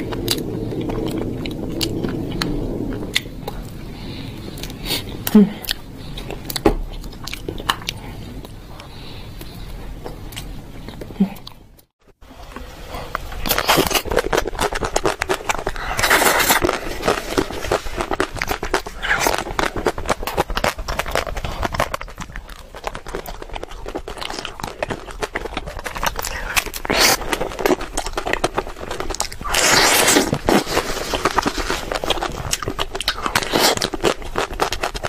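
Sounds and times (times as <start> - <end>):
chewing and crunching chocolate: 0.0 - 11.9, 12.9 - 35.0.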